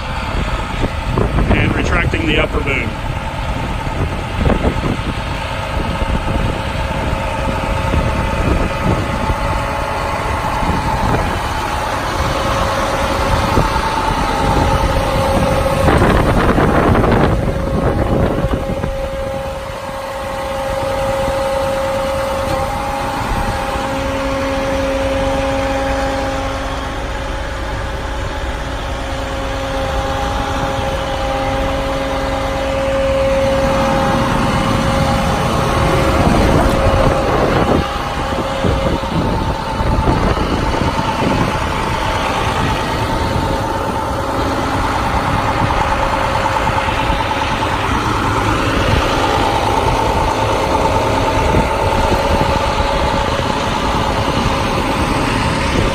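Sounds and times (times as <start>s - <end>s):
diesel truck engine running: 0.0s - 55.9s
low hum: 0.0s - 55.9s
steady whine: 0.0s - 55.9s.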